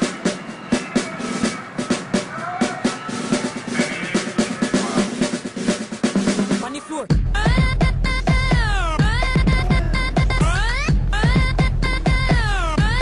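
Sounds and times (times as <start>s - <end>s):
music with fast drum beat: 0.0s - 13.0s.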